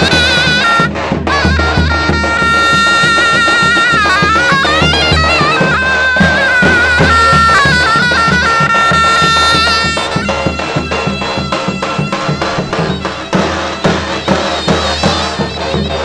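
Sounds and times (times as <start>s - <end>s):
davul drum beats: 0.0s - 16.0s
zurna playing folk melody: 0.0s - 16.0s.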